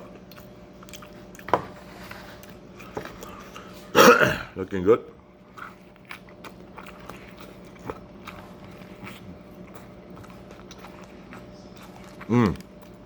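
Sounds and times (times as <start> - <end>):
wet chewing and mouth noises: 0.0 - 3.9, 5.2 - 13.0
steady low hum: 0.0 - 13.0.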